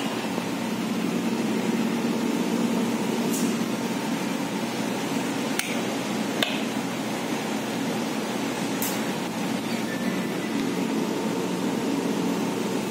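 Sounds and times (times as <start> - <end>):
steady background hum: 0.0 - 12.9.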